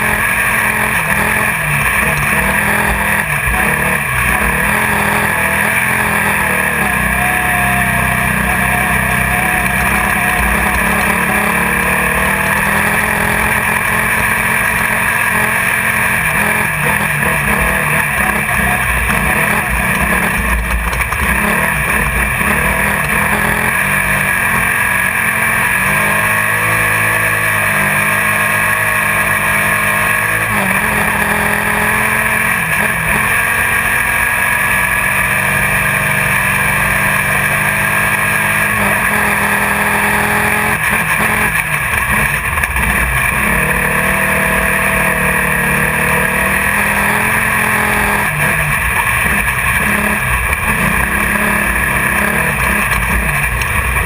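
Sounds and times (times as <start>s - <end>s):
car engine running hard: 0.0s - 54.0s
rattling chassis noise: 0.0s - 54.0s.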